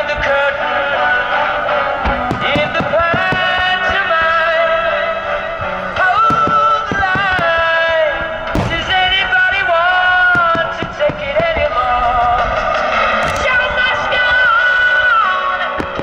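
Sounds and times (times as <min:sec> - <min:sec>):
fireworks popping and banging: 0:00.0 - 0:16.0
song over loudspeakers: 0:00.0 - 0:16.0.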